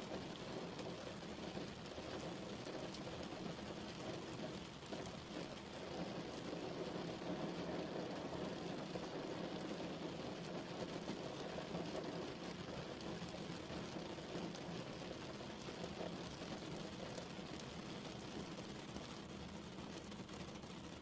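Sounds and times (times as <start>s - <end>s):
faint raindrop ticks: 0.0s - 21.0s
steady rain falling: 0.0s - 21.0s.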